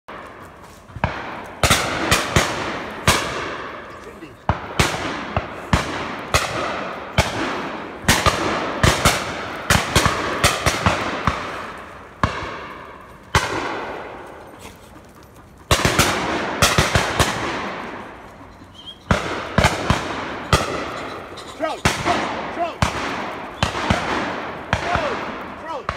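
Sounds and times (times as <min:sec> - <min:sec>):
echoing shotgun shots: 0:01.0 - 0:14.2, 0:15.7 - 0:25.9.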